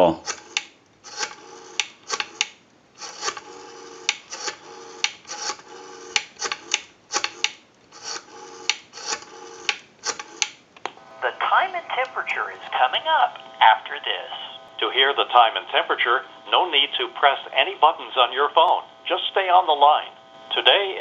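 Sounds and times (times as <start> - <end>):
rotary phone dial whirring: 0.2 - 10.6, 13.0 - 21.0.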